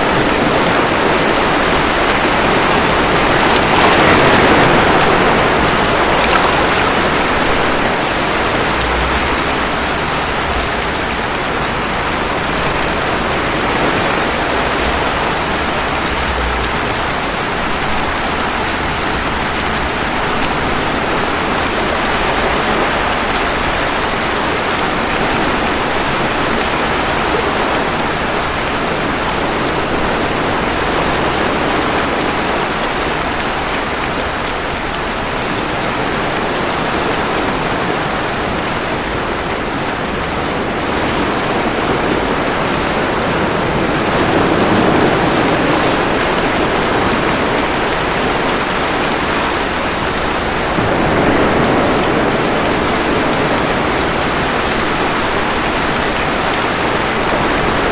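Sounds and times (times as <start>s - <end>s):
ocean waves: 0.0s - 57.9s
rain hiss: 0.0s - 57.9s.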